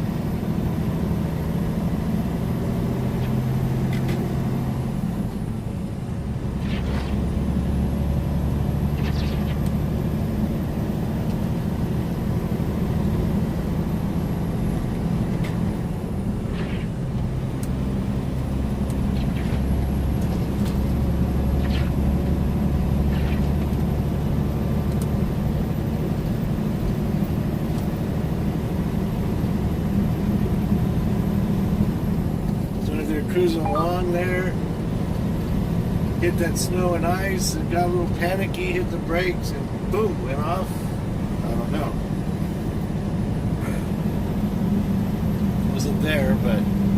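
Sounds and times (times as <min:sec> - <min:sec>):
diesel engine drone: 0:00.0 - 0:46.9
road noise: 0:00.0 - 0:46.9.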